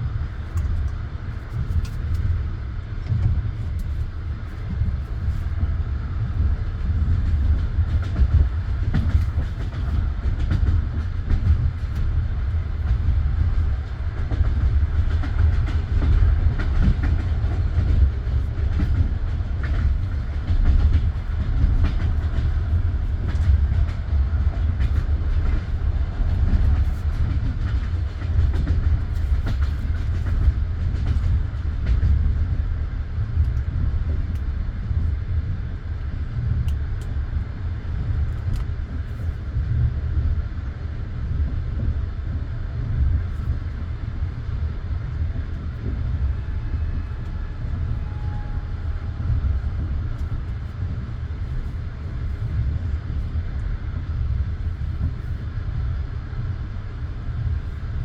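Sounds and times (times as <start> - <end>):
train carriage rumbling on rails: 0.0 - 58.0.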